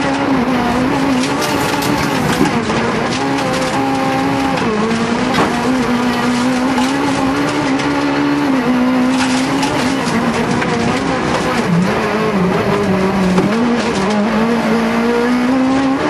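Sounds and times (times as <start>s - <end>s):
car engine at high revs: 0.0s - 16.0s
road and wind noise: 0.0s - 16.0s.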